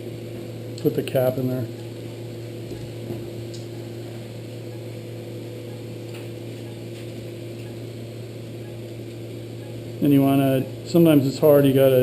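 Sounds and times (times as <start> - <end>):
electrical equipment hum: 0.0 - 12.0.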